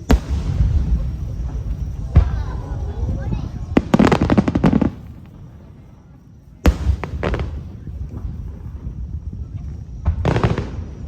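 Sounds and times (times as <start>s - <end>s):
fireworks bursting with boom: 0.0s - 11.0s
fireworks crackling: 0.0s - 11.0s.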